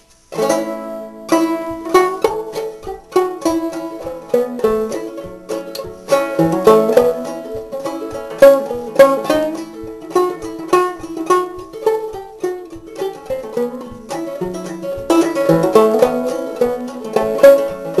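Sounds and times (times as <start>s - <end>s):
banjo plucked clawhammer style: 0.0s - 18.0s.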